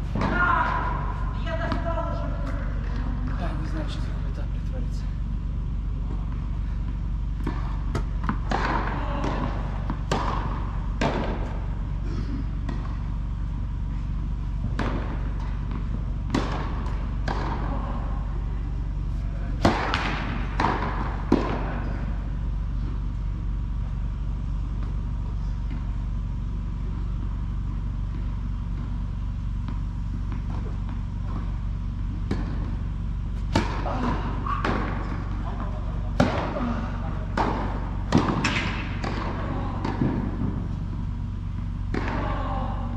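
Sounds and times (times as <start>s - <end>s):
tennis balls bouncing and struck: 0.0s - 3.4s, 5.5s - 42.9s
steady low hum: 0.0s - 42.9s.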